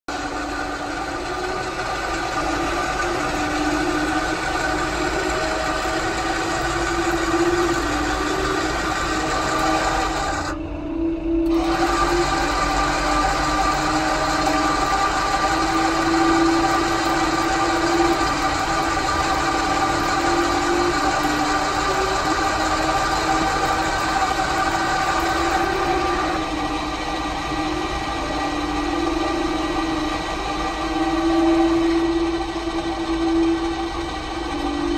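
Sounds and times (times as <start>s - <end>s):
electric motors whining: 0.1s - 34.9s.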